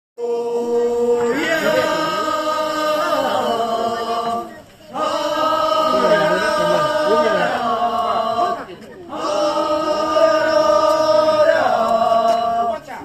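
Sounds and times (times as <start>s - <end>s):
group of voices chanting: 0.2s - 13.0s.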